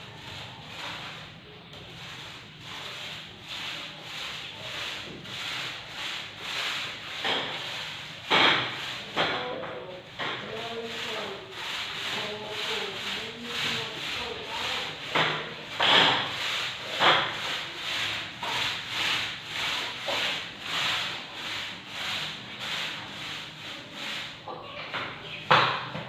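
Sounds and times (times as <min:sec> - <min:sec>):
paintbrush scrubbing on plaster wall: 0:00.0 - 0:26.0.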